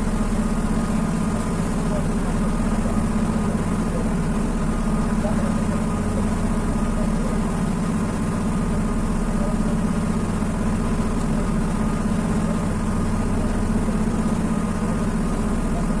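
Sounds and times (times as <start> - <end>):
engine low rumble: 0.0 - 16.0.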